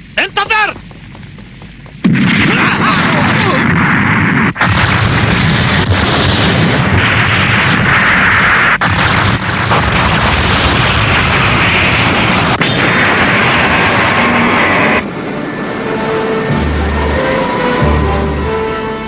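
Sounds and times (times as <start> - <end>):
cartoon explosions and rumbling: 0.0 - 19.0.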